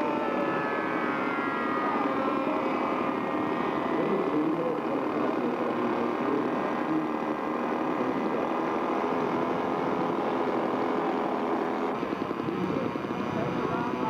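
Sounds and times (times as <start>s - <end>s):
model airplane engine running: 0.0s - 14.0s.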